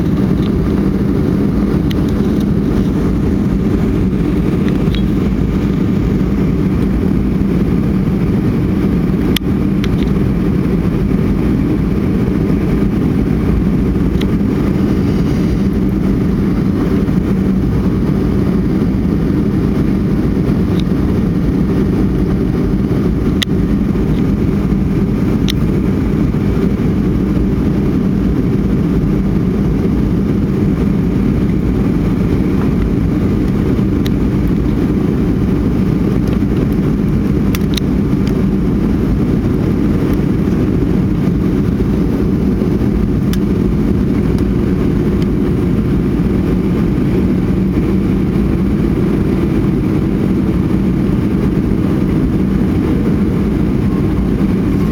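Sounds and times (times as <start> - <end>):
airliner cabin roar: 0.0 - 54.9.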